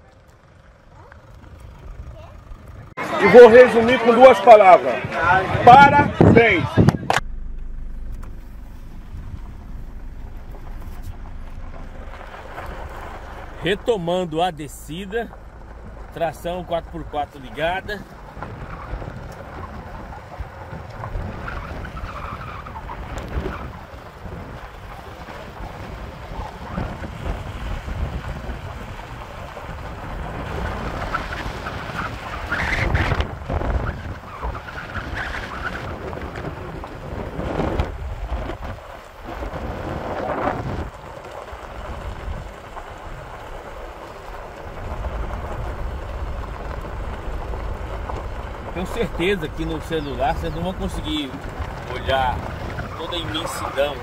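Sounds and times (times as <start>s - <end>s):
tyres on loose gravel: 0.0s - 54.0s
vehicle engine rumble: 0.0s - 54.0s.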